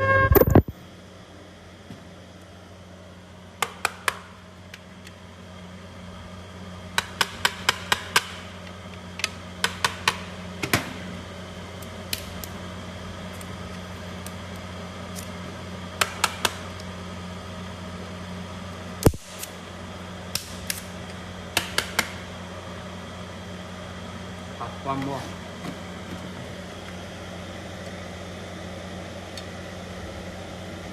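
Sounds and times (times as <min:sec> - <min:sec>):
electrical hum of welding machine: 0:00.0 - 0:30.9.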